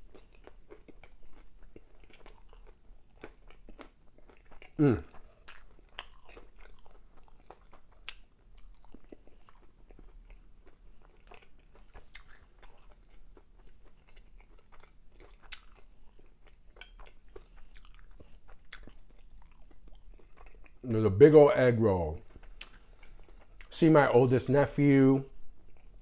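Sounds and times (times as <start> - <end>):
person chewing food: 0.0 - 20.8, 22.1 - 23.8, 25.3 - 26.0.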